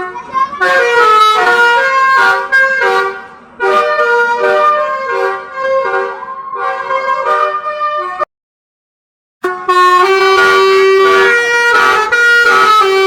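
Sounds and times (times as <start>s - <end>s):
musical bus horn melody: 0.0s - 8.3s, 9.4s - 13.0s.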